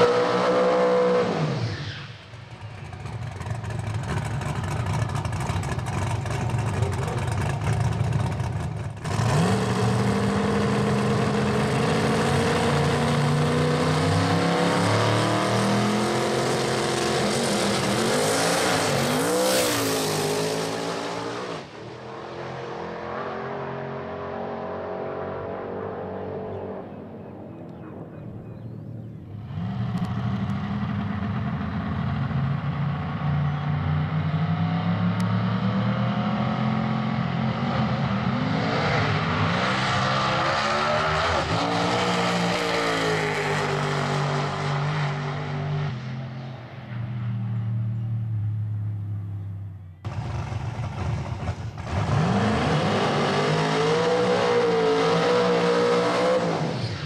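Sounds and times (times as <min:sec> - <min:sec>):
drag car engine revving: 0:00.0 - 0:26.4, 0:29.4 - 0:45.9, 0:50.0 - 0:57.0.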